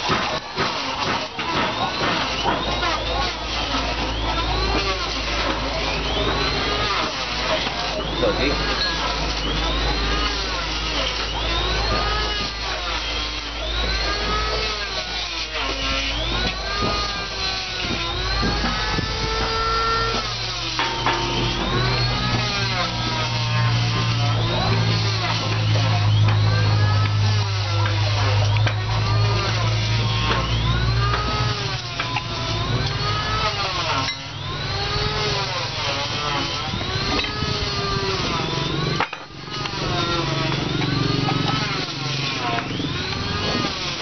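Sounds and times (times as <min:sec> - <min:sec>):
power tools whining: 0:00.0 - 0:44.0.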